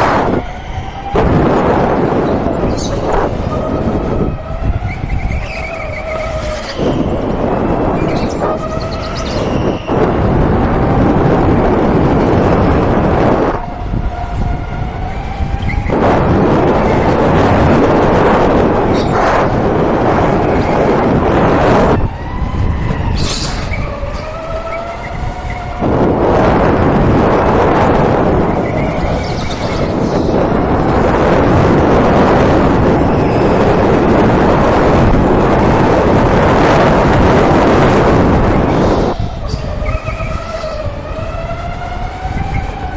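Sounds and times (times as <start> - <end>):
go-kart rumbling at speed: 0.0 - 42.9
wind and tyres rushing: 0.0 - 42.9.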